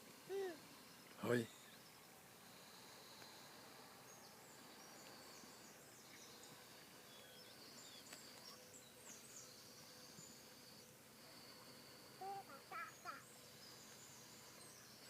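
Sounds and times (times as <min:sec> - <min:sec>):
faint birds chirping: 0:00.0 - 0:15.0
thin steady high hiss: 0:00.0 - 0:15.0.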